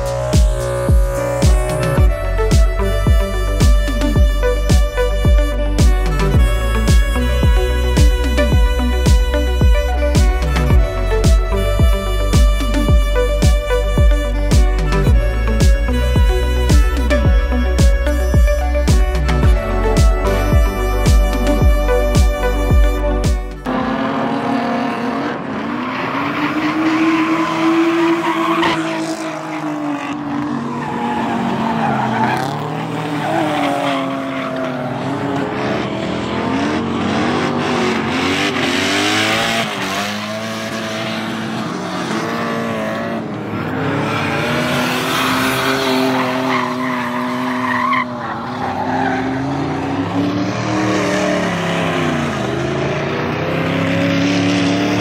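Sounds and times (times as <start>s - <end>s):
car engines revving: 0.0s - 55.0s
tyres squealing and skidding: 0.0s - 55.0s.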